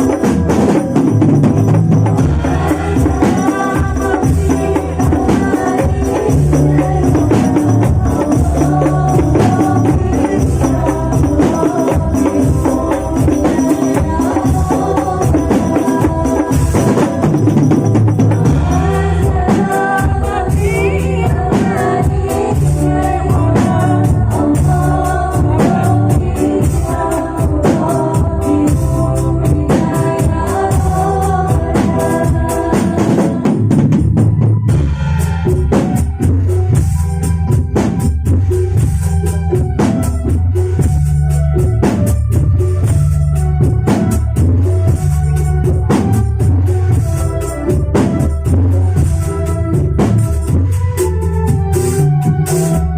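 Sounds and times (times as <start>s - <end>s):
frame drums beating: 0.0s - 52.9s
sustained melody line: 0.0s - 52.9s.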